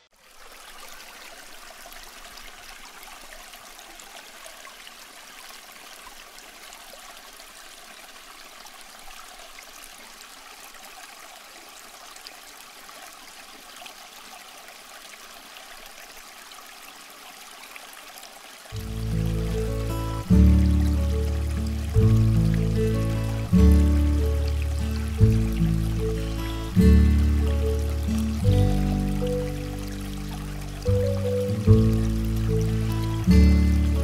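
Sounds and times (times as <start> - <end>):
aquarium water trickling: 0.1 - 34.0.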